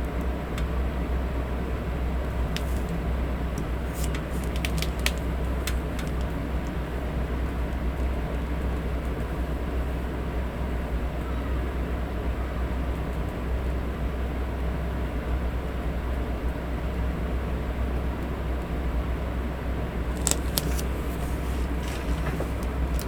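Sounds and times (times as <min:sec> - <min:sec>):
electric fan with low rumble: 0:00.0 - 0:23.0.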